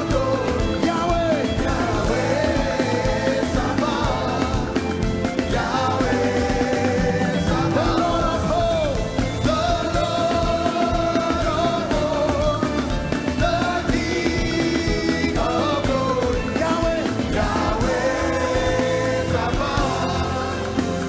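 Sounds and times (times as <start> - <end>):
live band playing praise music: 0.0 - 21.0
voices singing: 0.0 - 21.0.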